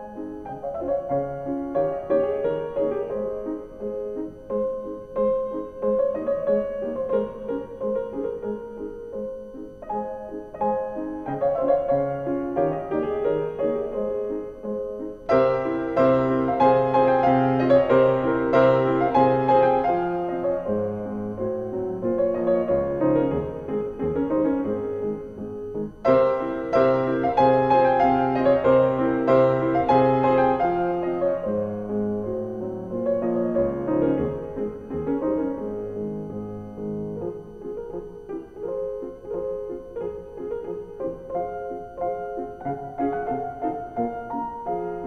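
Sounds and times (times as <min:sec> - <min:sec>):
piano music: 0:00.0 - 0:45.0.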